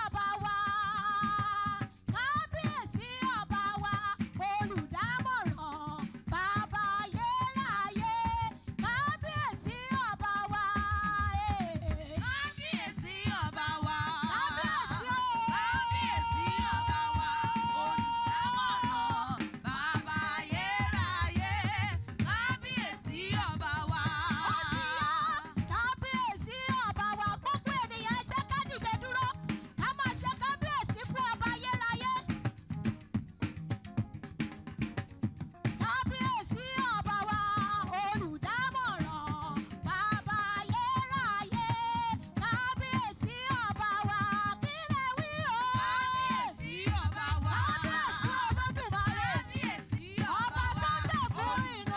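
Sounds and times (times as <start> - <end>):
woman singing gospel song: 0.0 - 32.3, 35.8 - 51.9
band accompaniment with drum beat: 0.0 - 51.9.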